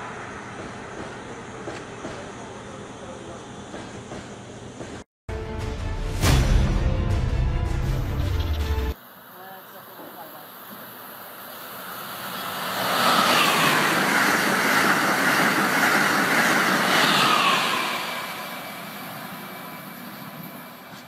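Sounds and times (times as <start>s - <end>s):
high-speed train passing: 0.0s - 5.0s, 8.9s - 21.0s.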